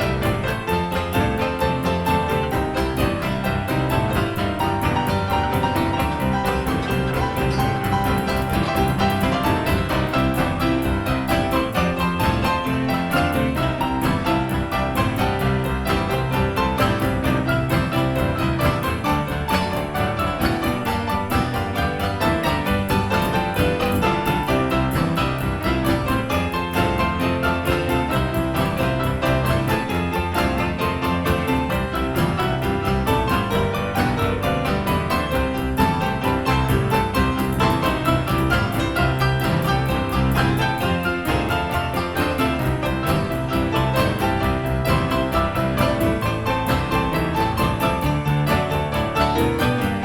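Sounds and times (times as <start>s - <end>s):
piano background music: 0.0s - 50.0s.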